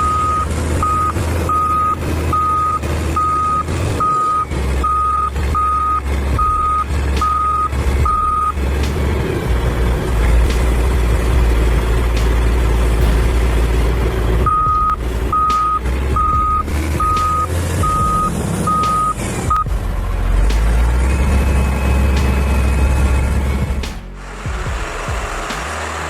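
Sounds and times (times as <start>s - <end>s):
backup alarm beeping: 0.0s - 25.8s
diesel engine rumble: 0.0s - 26.0s.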